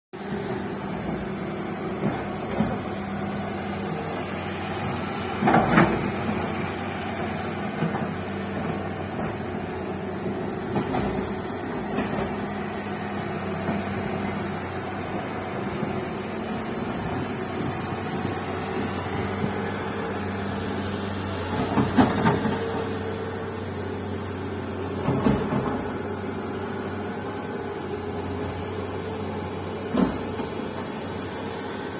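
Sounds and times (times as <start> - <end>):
bulldozer diesel engine running: 0.2 - 31.9.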